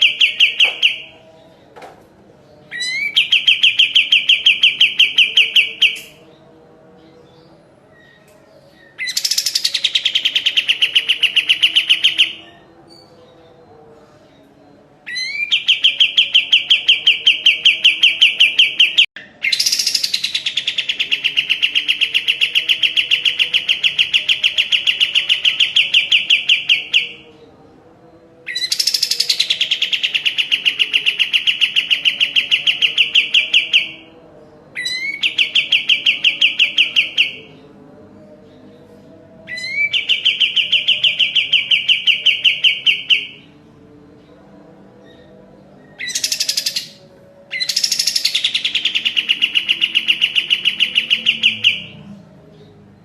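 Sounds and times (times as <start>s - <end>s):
bulbul singing chattering phrases: 0.0s - 1.6s, 2.6s - 53.0s.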